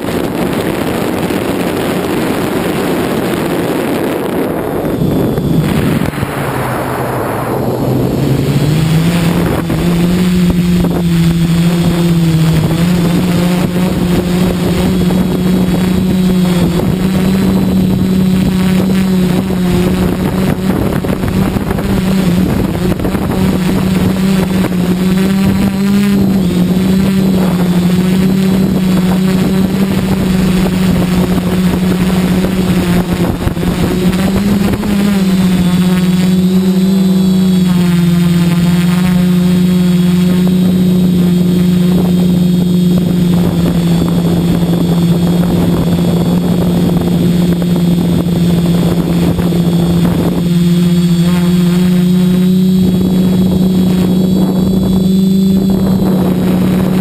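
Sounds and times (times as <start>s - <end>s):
drone propellers buzzing: 0.0s - 57.0s
wind noise on microphone: 0.0s - 57.0s.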